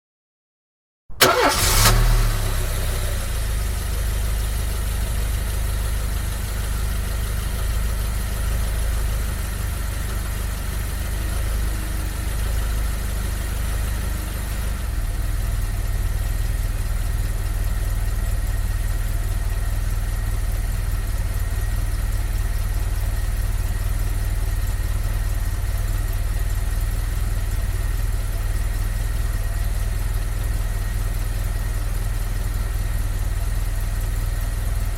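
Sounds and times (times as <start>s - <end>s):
car engine idling: 1.1s - 34.9s
car engine starting: 1.1s - 34.9s.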